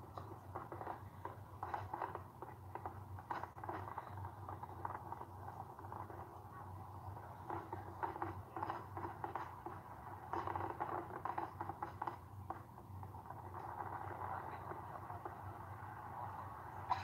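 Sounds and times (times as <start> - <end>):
fireworks crackling through tv speaker: 0.0 - 17.0
steady low hum: 0.0 - 17.0.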